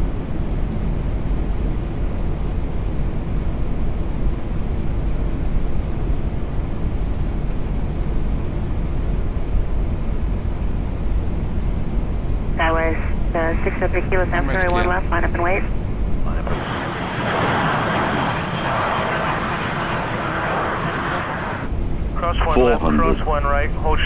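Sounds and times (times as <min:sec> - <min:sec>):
airflow and engine rumble: 0:00.0 - 0:24.0.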